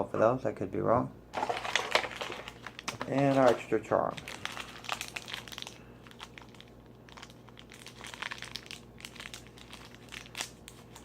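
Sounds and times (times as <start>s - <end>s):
plastic packaging crinkling: 1.4s - 11.0s.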